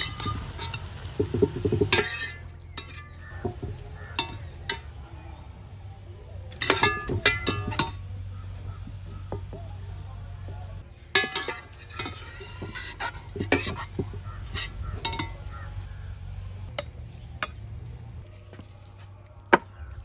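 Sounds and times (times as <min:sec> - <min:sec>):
utensils clinking on pots: 0:00.0 - 0:17.7.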